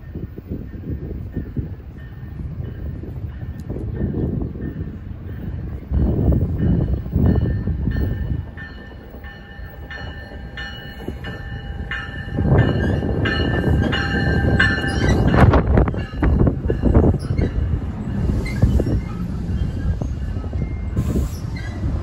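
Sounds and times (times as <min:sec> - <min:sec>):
train bell ringing: 0:00.0 - 0:21.6
low rumble of train: 0:00.0 - 0:22.0.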